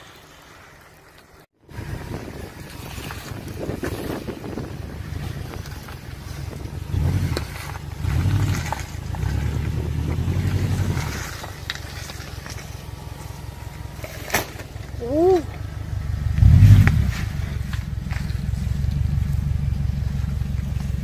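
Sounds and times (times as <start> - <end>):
vehicle engine revving: 1.6 - 21.0.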